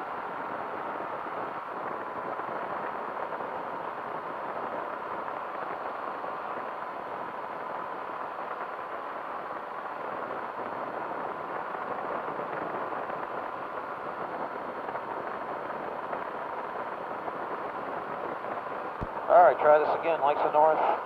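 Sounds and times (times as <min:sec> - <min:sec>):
engine and propeller drone: 0:00.0 - 0:21.0.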